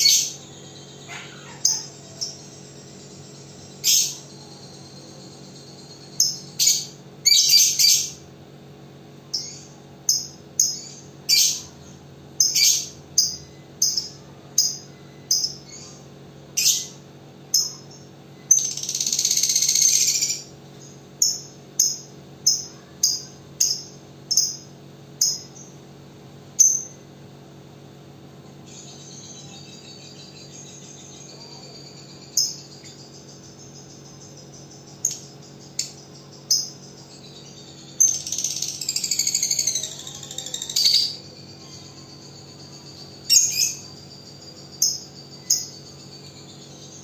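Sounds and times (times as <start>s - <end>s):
lovebird chatter trill: 0.0s - 27.2s, 28.3s - 47.0s.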